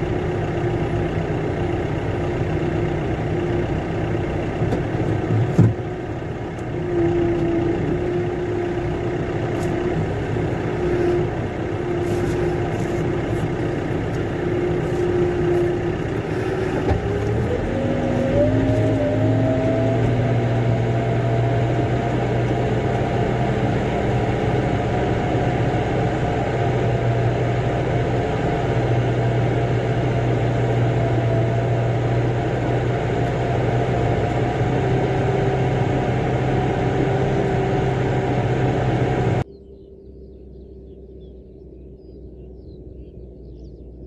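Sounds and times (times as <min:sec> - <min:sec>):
vehicle engine accelerating: 0:00.0 - 0:44.0.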